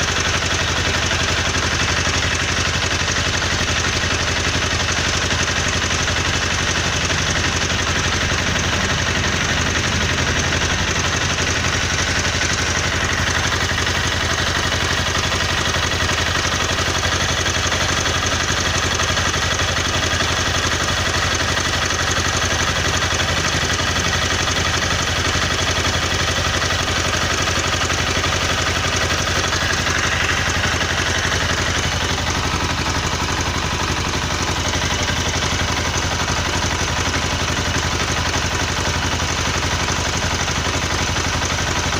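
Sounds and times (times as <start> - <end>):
motorcycle engine idling: 0.0 - 41.9
fast ticking knock: 1.6 - 37.6.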